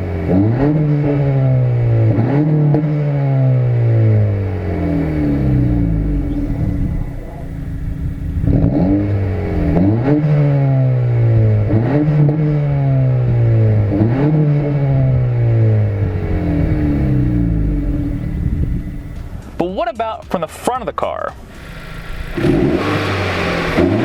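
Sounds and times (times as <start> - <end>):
car engine revving through exhaust: 0.0 - 19.2, 21.4 - 24.0.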